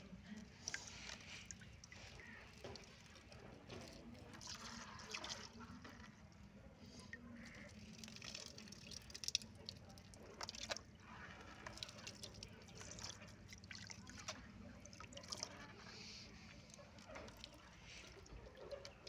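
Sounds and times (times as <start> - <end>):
water splashing and dripping: 0.4 - 19.0.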